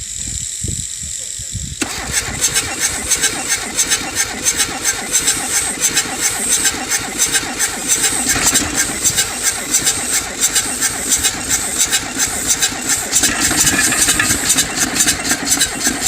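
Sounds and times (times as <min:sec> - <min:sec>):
diesel engine clattering: 0:01.8 - 0:16.0
engine knocking: 0:01.8 - 0:16.0.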